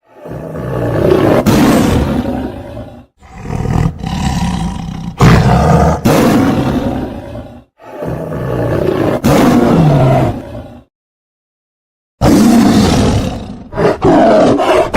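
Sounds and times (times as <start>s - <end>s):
tiger roaring: 0.0s - 10.9s, 12.2s - 14.9s.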